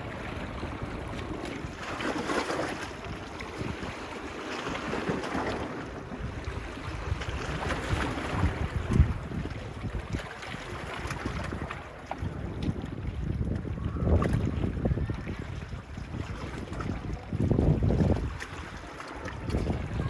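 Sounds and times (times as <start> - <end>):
small waves washing on beach: 0.0 - 20.0
wind buffeting microphone: 0.0 - 20.0.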